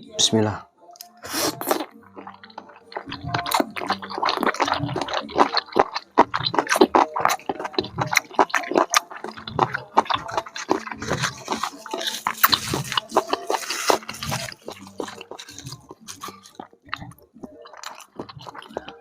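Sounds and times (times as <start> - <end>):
wet chewing and mouth smacks: 1.0 - 19.0.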